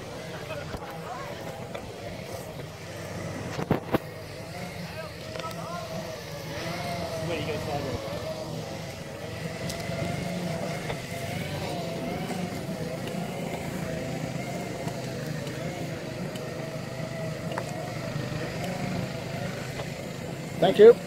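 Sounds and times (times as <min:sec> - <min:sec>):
electric drive whining: 0:00.0 - 0:21.0
tyres rolling on grass and dirt: 0:00.0 - 0:21.0.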